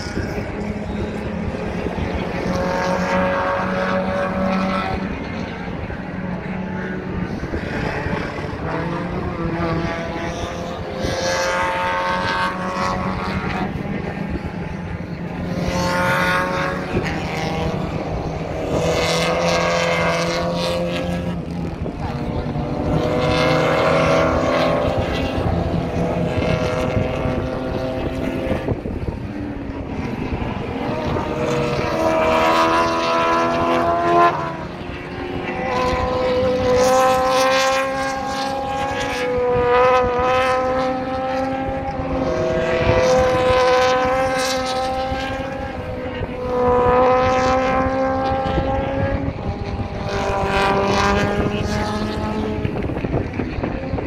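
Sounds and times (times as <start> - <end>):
race cars passing at speed: 0.0 - 54.0.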